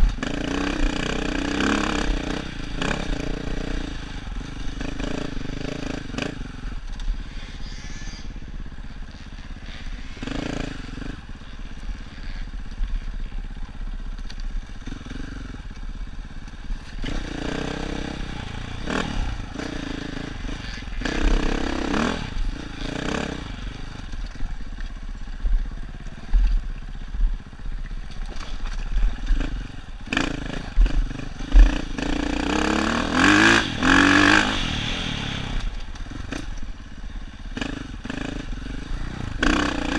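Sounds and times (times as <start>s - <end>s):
dirt bike engine revving: 0.0s - 13.2s, 13.9s - 39.9s.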